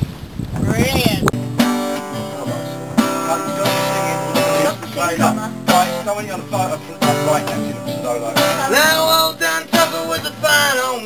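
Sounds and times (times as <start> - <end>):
acoustic guitar strumming: 1.2 - 11.0.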